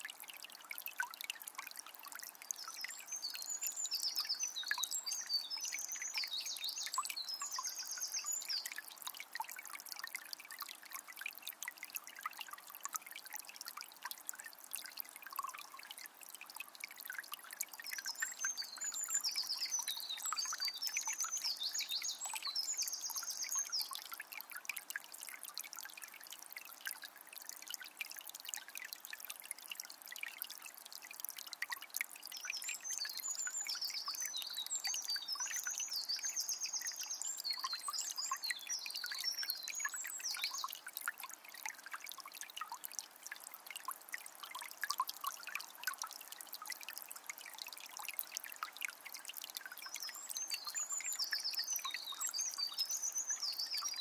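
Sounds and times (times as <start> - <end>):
river trickling and splashing: 0.0 - 54.0.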